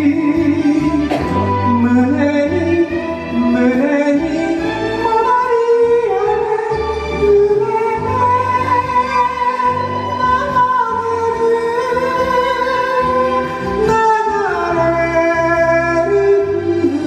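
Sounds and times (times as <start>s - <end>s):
instrumental backing music: 0.0s - 17.0s
woman singing a ballad: 0.0s - 17.0s.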